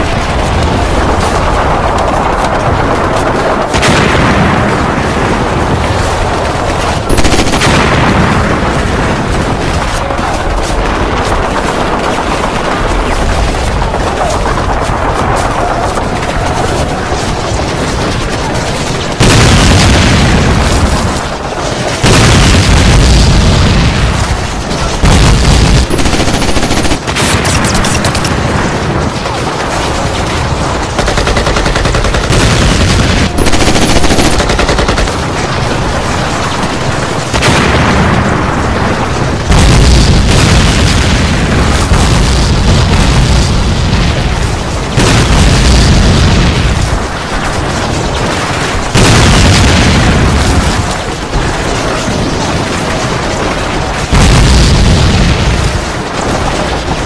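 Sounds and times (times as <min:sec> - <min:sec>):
explosions: 0:00.0 - 0:57.0
rifle and machine-gun fire: 0:00.0 - 0:57.0.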